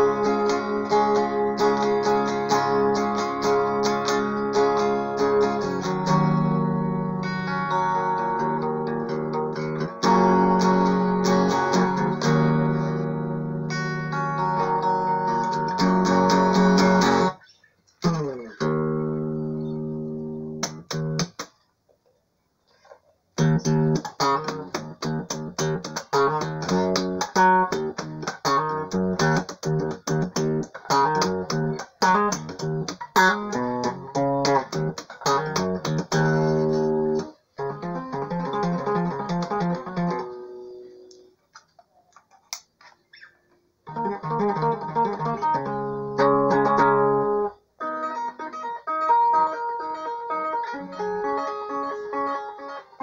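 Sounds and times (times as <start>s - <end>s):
clean electric guitar: 0.0s - 21.5s, 23.4s - 41.6s, 42.3s - 53.0s.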